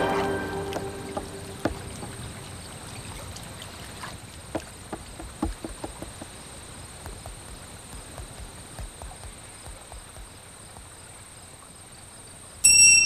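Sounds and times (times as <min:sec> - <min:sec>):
horse hooves clip-clopping: 0:00.6 - 0:11.8.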